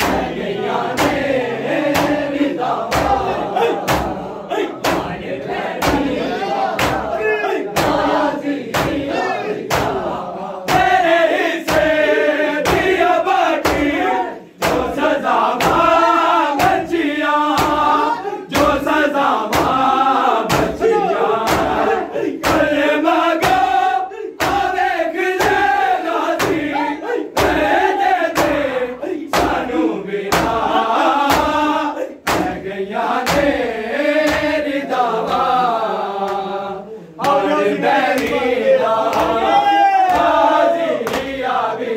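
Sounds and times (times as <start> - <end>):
open-handed chest-beating: 0.0 - 41.8
men chanting a lament: 0.0 - 41.9.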